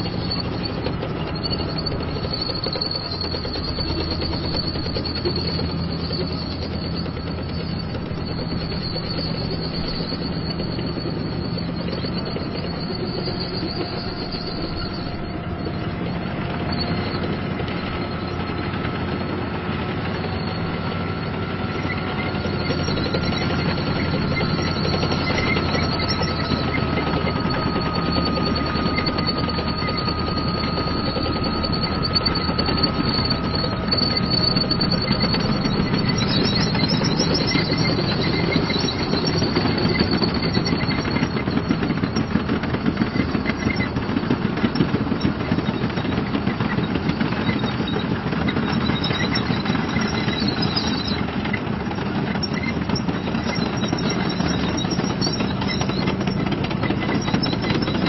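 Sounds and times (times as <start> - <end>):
diesel engine running: 0.0 - 58.0
steel tracks clattering: 0.0 - 58.0.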